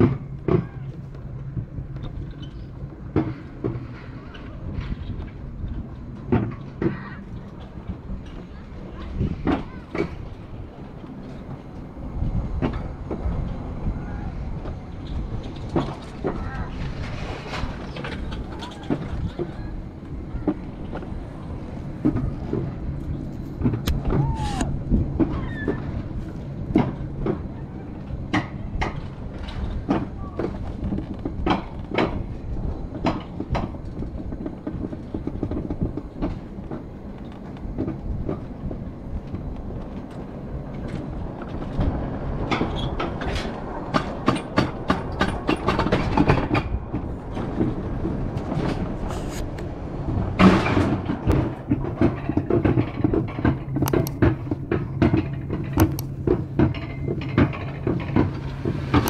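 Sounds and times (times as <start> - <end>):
clacking over track joints: 0.0 - 13.7, 14.6 - 59.0
sled wheels rumbling on track: 0.0 - 59.0.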